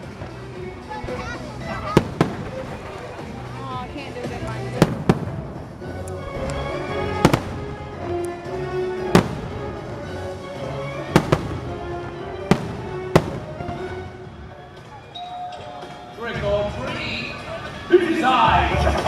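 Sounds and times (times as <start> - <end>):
fireworks bangs: 0.0 - 17.9
music playing: 0.0 - 19.0.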